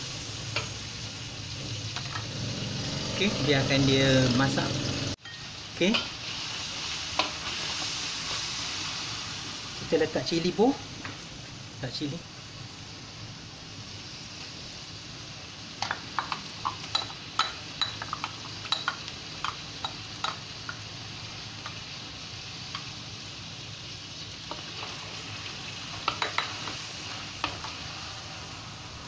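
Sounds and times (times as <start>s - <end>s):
paste sizzling in hot oil: 0.0s - 29.0s.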